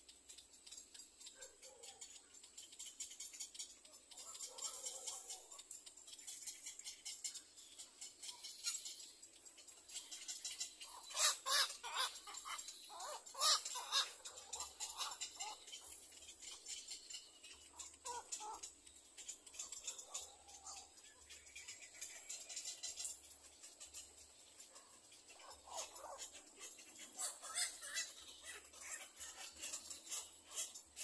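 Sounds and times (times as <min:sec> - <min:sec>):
birds giving harsh calls: 0:00.1 - 0:31.0.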